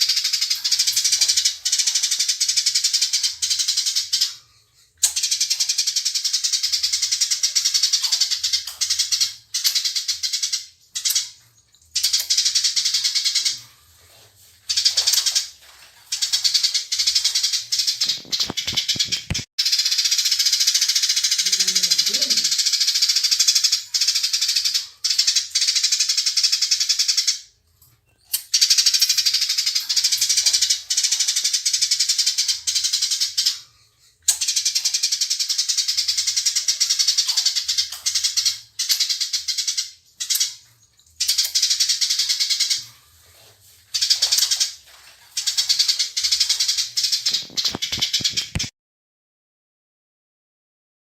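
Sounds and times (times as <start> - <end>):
sparrows chattering: 0.0 - 27.4, 28.5 - 48.7.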